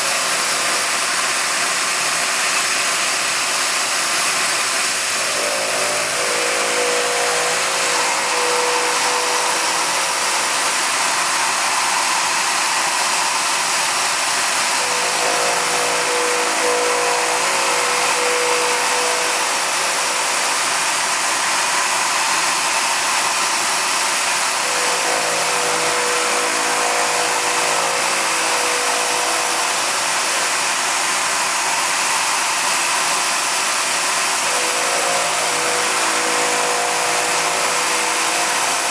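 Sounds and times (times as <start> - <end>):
power tool motor running: 0.0 - 38.9
humming tone: 4.2 - 38.9.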